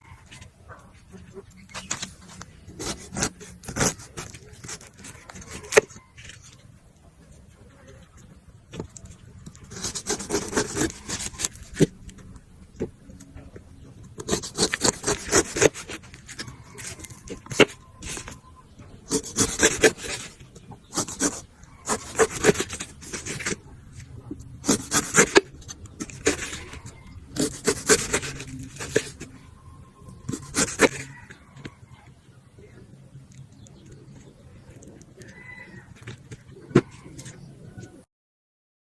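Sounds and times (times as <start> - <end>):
knife cutting and scraping fruit: 0.1 - 38.0.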